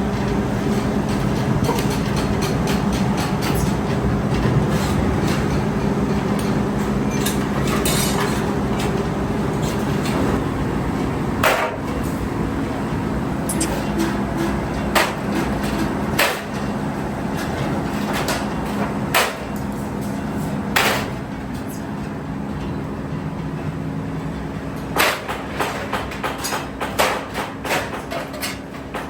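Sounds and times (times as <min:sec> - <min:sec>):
workshop machine hum: 0:00.0 - 0:29.0.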